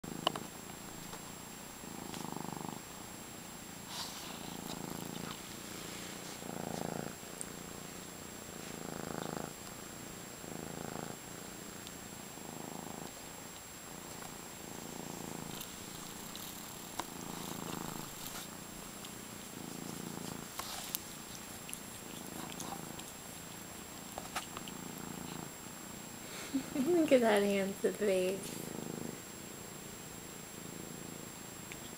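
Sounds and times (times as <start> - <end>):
kitten purring: 0.0 - 31.9.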